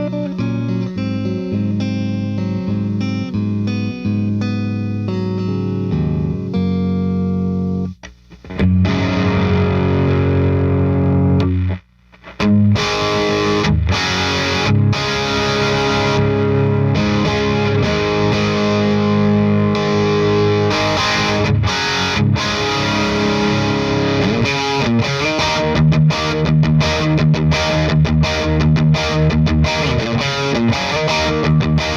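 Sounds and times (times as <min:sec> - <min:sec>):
overdriven electric guitar chords: 0:00.0 - 0:31.9.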